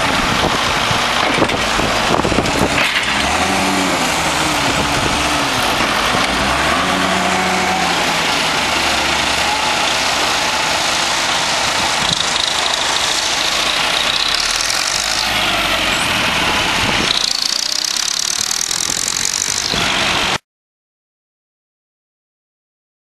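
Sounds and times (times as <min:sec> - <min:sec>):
tractor engine running: 0:00.0 - 0:20.4.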